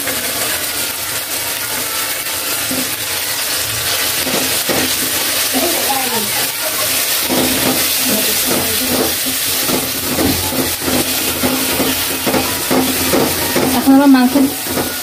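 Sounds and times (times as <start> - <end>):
paste sizzling in oil: 0.0 - 15.0
spatula scraping pan: 1.6 - 15.0.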